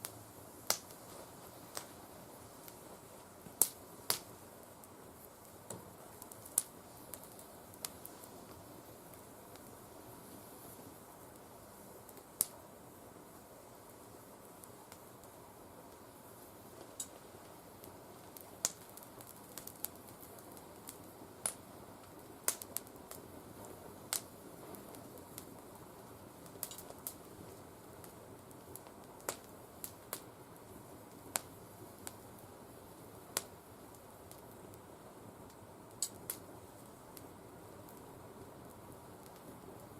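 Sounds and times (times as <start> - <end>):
fire hissing: 0.0 - 39.9
twigs burning with sharp pops: 0.0 - 39.9.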